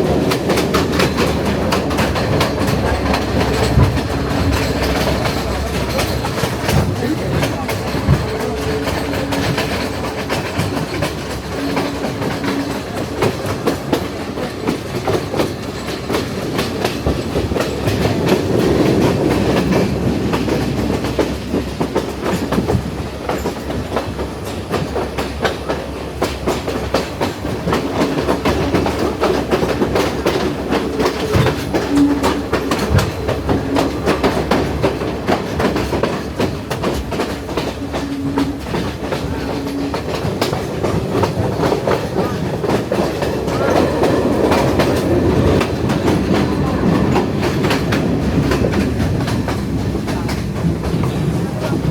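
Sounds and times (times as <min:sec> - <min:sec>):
train rumble: 0:00.0 - 0:51.9
wheels clattering over rail joints: 0:00.0 - 0:51.9.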